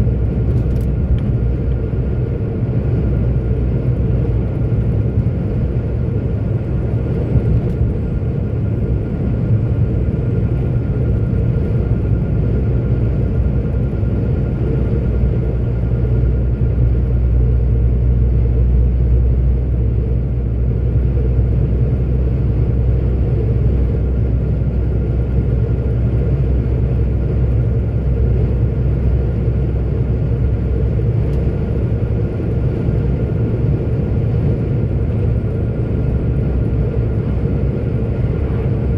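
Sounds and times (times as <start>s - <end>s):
truck diesel engine rumble: 0.0s - 38.9s.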